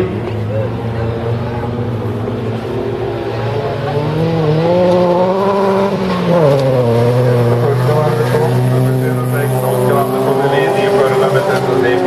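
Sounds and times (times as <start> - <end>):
car engines running: 0.0 - 12.0
race car engine revving: 0.0 - 12.0.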